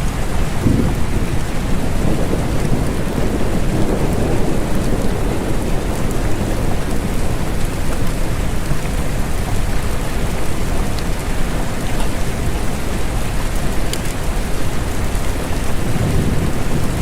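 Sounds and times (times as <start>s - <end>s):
steady heavy rain: 0.0s - 17.0s.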